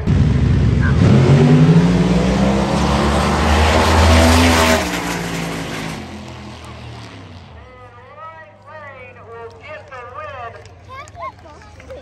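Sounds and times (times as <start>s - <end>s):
drag race cars at full throttle: 0.0s - 12.0s.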